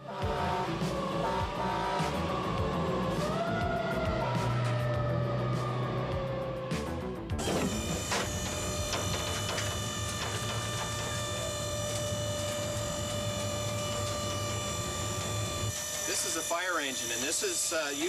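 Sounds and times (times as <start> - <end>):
ladder rack motor humming: 0.0 - 18.0.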